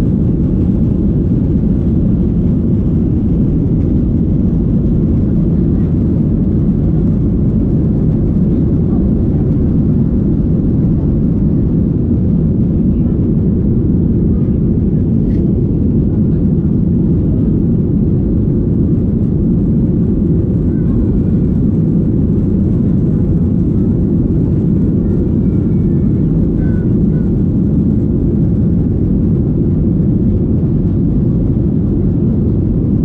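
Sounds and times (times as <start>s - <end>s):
jet engine cabin rumble: 0.0s - 33.0s.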